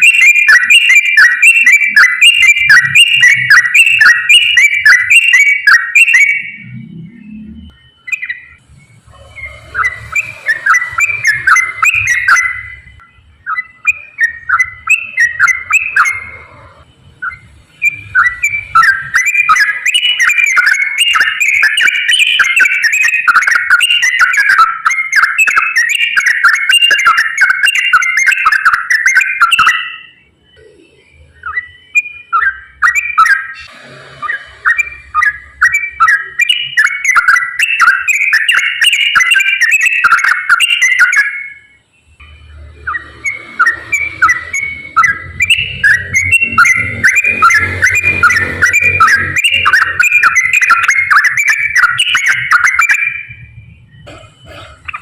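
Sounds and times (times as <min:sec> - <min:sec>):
bird singing rapid whistled song: 0:00.0 - 0:55.0.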